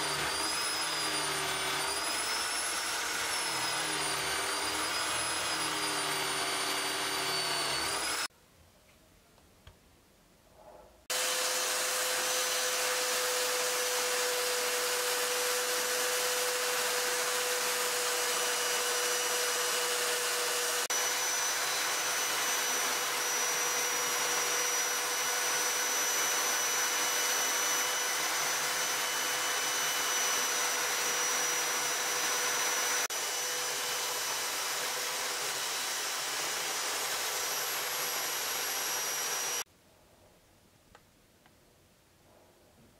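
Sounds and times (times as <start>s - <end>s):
angle grinder whining: 0.0s - 8.3s, 11.1s - 39.7s.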